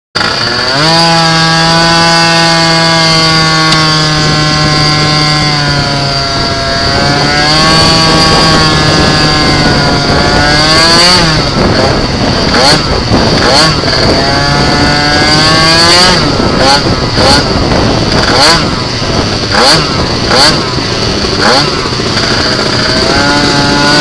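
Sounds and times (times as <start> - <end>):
scooter engine revving: 0.1 - 24.0.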